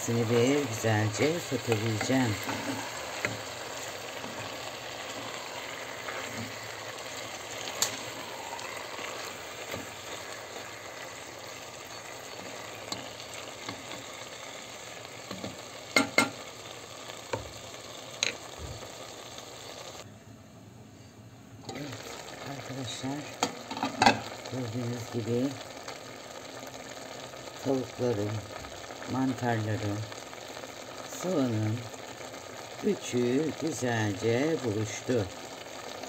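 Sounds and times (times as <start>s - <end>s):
food sizzling in a pot: 0.0s - 20.1s, 21.6s - 36.0s.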